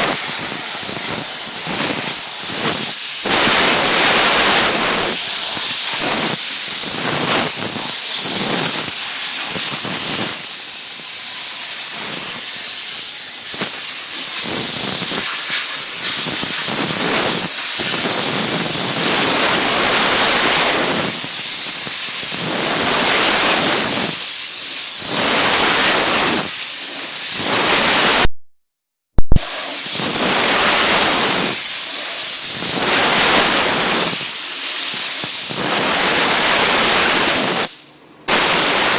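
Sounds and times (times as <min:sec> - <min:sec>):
steam cleaner hissing: 0:00.0 - 0:28.3, 0:29.4 - 0:38.9.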